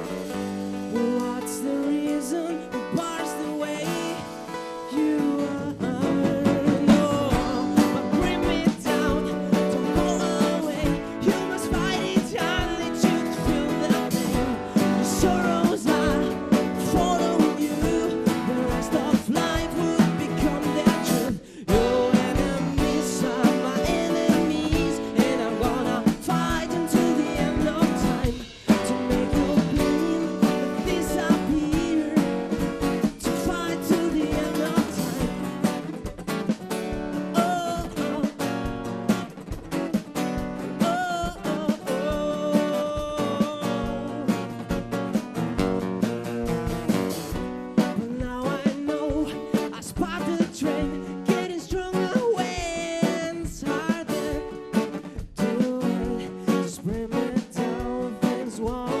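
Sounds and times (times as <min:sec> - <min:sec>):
person singing: 0:00.0 - 0:36.1, 0:37.2 - 0:39.2, 0:40.2 - 0:45.2, 0:46.9 - 0:59.0
guitar: 0:00.0 - 0:59.0
live band music: 0:00.0 - 0:59.0
steady drum beat: 0:00.0 - 0:59.0.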